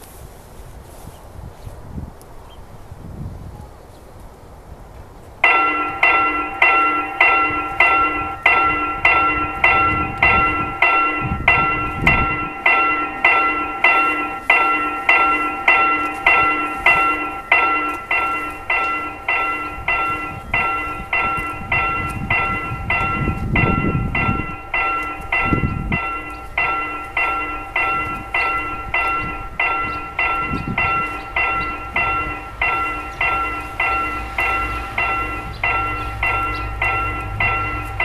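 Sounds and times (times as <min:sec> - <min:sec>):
level-crossing warning bell: 0:05.4 - 0:38.0
approaching train rumble: 0:05.8 - 0:38.0.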